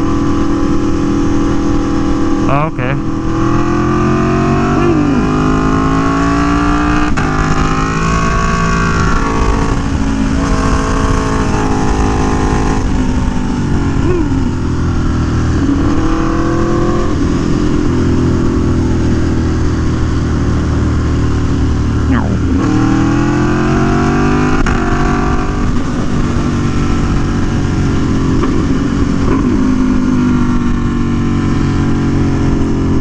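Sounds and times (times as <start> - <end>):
motorcycle engine accelerating: 0.0 - 33.0
wind and road rumble: 0.0 - 33.0.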